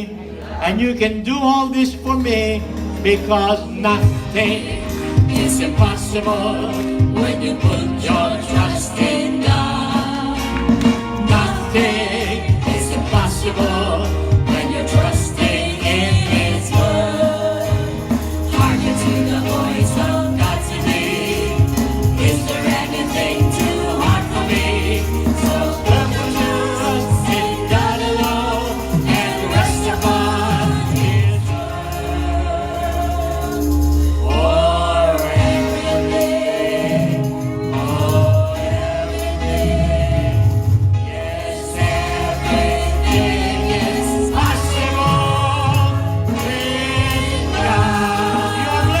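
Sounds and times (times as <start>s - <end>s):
band accompaniment with bass: 0.0s - 49.0s
voices singing together: 3.0s - 49.0s.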